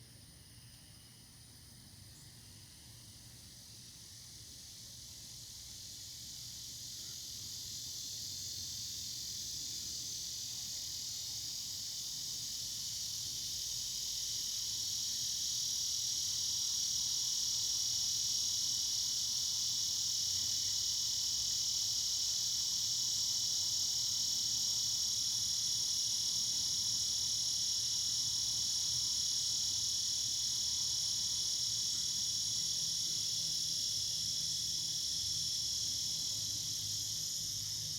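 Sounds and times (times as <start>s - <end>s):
cicadas buzzing: 2.5s - 37.9s.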